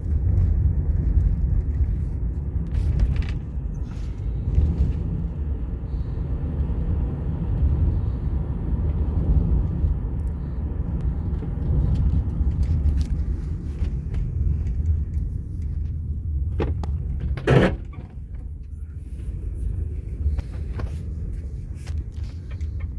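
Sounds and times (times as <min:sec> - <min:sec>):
car wheels rumbling: 0:00.0 - 0:22.9.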